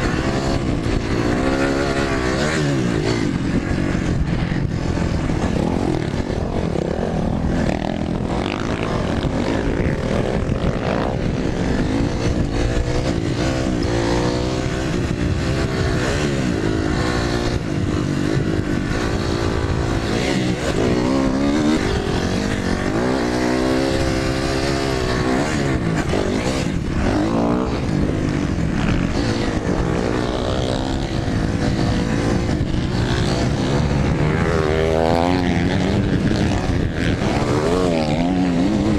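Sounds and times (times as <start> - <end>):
dirt bike engine revving: 0.0 - 38.9
steady rushing noise: 0.0 - 38.9.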